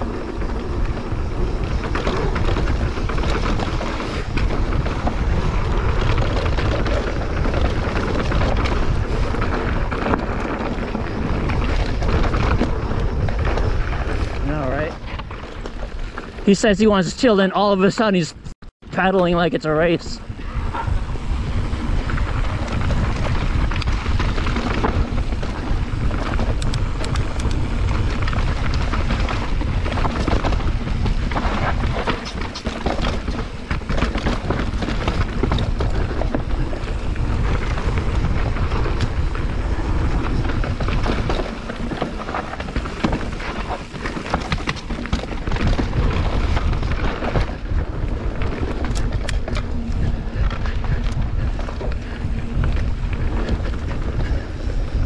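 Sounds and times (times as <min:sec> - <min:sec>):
wind buffeting microphone: 0:00.0 - 0:17.2, 0:18.0 - 0:55.0
bike clicks and rattles: 0:00.0 - 0:18.2, 0:18.9 - 0:55.0
tyres rumbling over dirt trail: 0:00.0 - 0:55.0.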